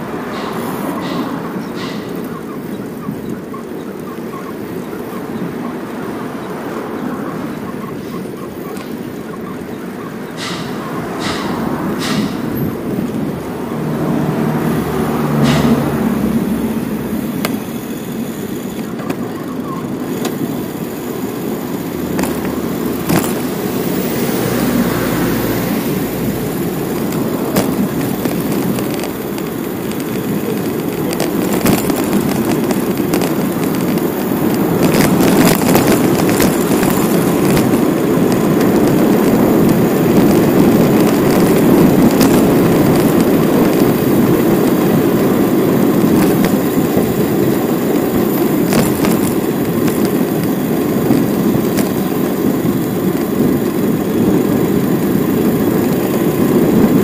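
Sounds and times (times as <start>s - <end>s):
bicycle clicks and rattles: 0.0s - 57.0s
road and wind rumble: 0.0s - 57.0s.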